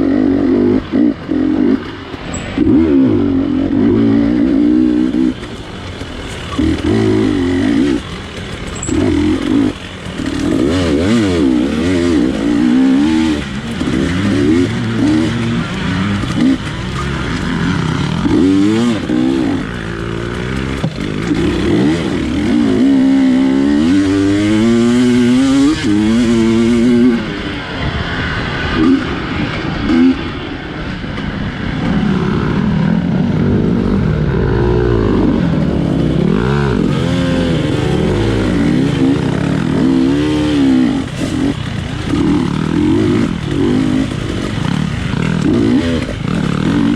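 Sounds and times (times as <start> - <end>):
dirt bike engine revving: 0.0 - 30.8, 31.6 - 46.9.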